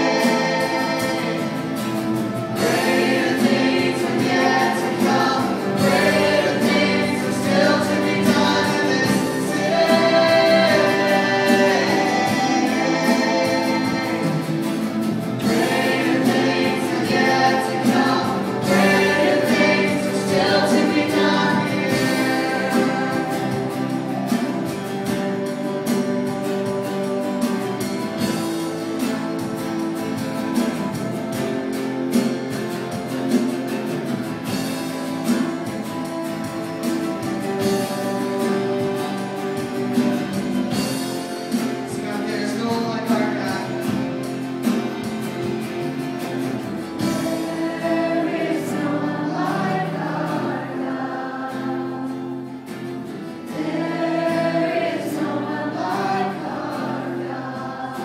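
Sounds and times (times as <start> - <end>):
voices singing together: 0.0 - 31.5, 33.0 - 58.0
drums: 0.0 - 58.0
guitar: 0.0 - 58.0
keyboard: 0.0 - 58.0.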